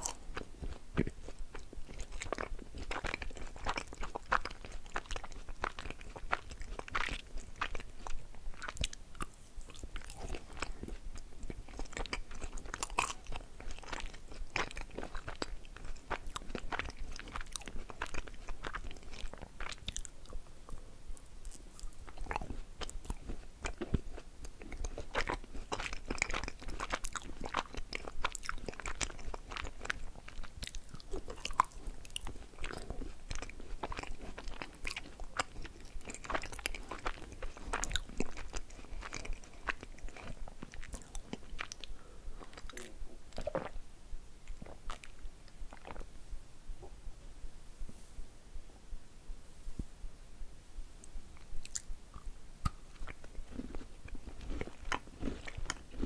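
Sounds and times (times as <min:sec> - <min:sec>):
person chewing crunchy food: 0:00.0 - 0:43.8, 0:44.5 - 0:46.1, 0:51.4 - 0:56.0.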